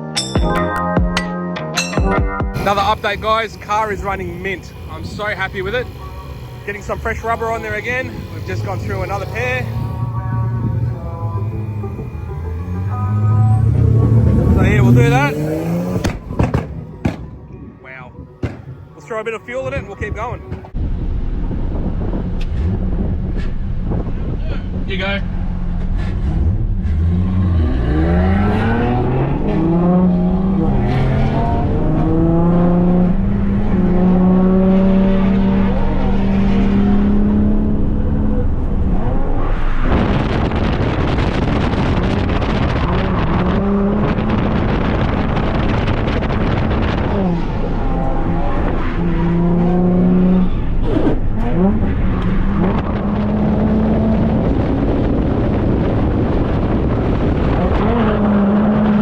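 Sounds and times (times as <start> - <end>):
dense rush of noise: 2.6 - 29.4, 35.7 - 59.0
car engine revving: 2.6 - 59.0.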